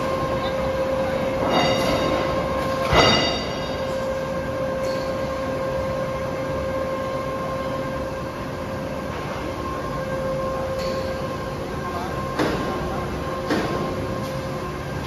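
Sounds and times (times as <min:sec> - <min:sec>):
machinery drone: 0:00.0 - 0:15.0
mid-pitched machine whine: 0:00.0 - 0:15.0.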